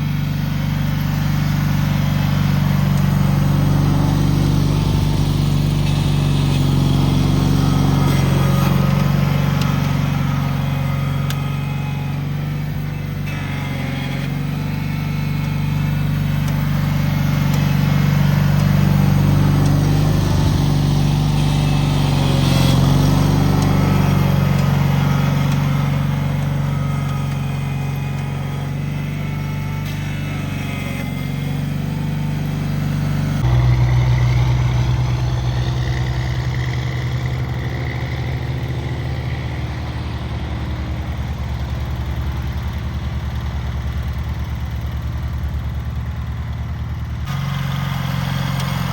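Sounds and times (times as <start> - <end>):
garden tractor engine running: 0.0 - 48.9.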